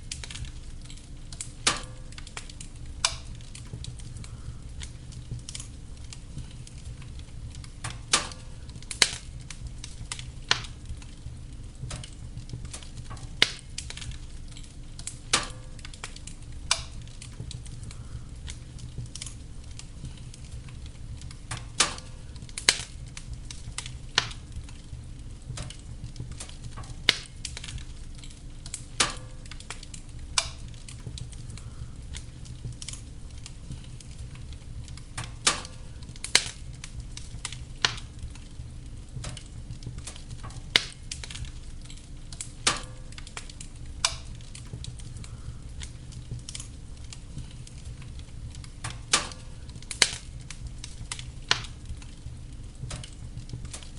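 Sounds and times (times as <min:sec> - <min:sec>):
fire crackling and popping: 0:00.0 - 0:53.9
wood fire rumbling: 0:00.0 - 0:53.9.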